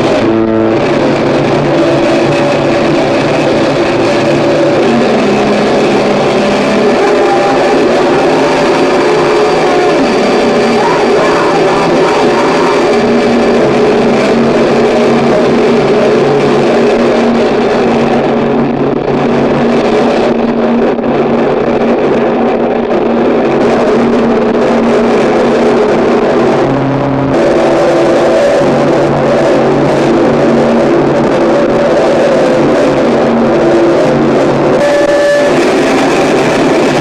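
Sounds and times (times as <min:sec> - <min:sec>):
distorted noise music: 0:00.0 - 0:37.0
droning pitches: 0:00.0 - 0:37.0.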